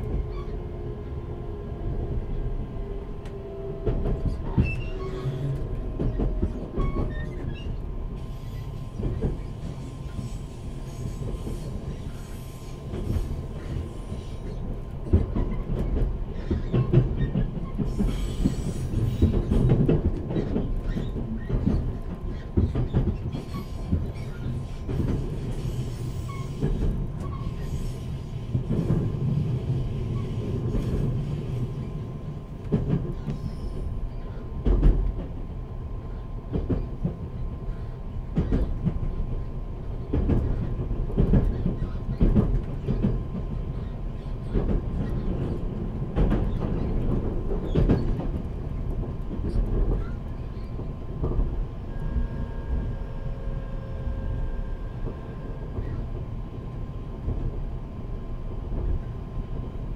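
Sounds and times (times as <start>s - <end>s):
train wheel and rail rumble: 0.0s - 59.9s.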